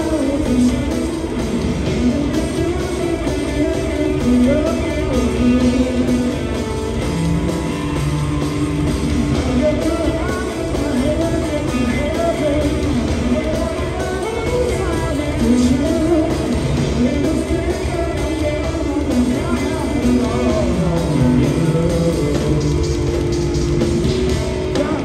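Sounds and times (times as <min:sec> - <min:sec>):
person singing: 0:00.0 - 0:25.0
rock band playing live: 0:00.0 - 0:25.0.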